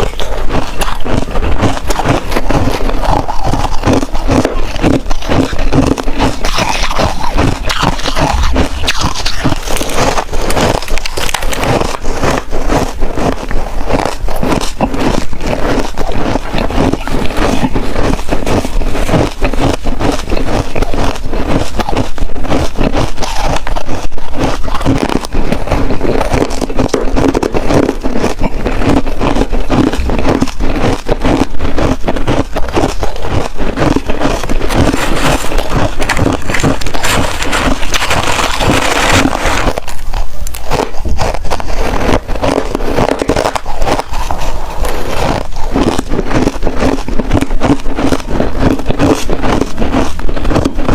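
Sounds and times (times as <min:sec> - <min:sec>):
ice crunching while chewed: 0:00.0 - 0:50.9.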